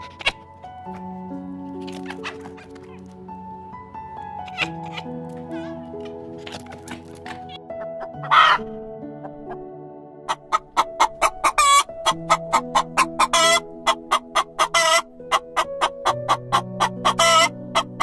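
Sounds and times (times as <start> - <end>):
chickens clucking: 0.0 - 1.0, 1.6 - 9.6, 10.3 - 18.0
soft background music: 0.0 - 18.0.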